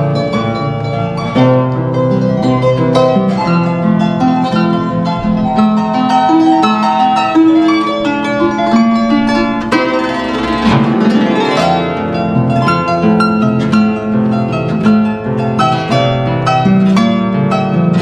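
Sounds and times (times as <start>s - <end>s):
harp playing: 0.0s - 18.0s.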